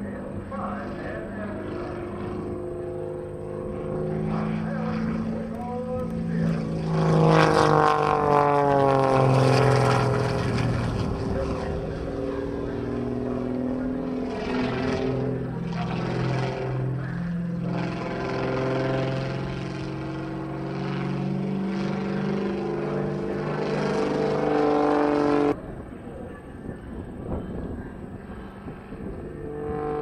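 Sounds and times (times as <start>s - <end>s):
biplane engine and propeller droning: 0.0s - 30.0s.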